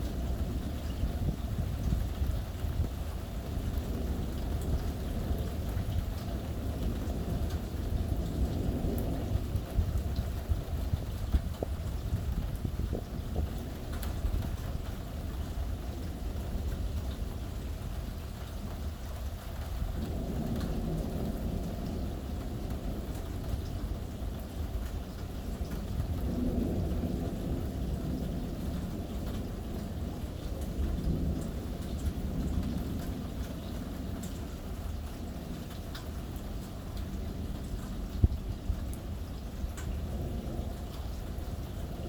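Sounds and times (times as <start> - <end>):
raindrops ticking on a surface: 0.0 - 42.0
steady rain: 0.0 - 42.0
thunder rumbling: 0.0 - 42.0.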